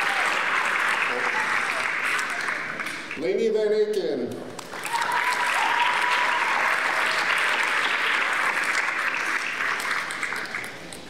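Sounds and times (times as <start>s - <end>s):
audience applauding: 0.0s - 3.2s, 4.6s - 11.0s.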